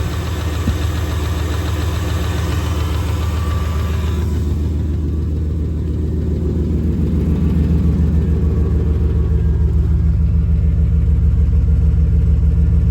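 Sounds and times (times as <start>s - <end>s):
engine idling: 0.0s - 12.9s
intermittent engine ticking noise: 0.0s - 12.9s.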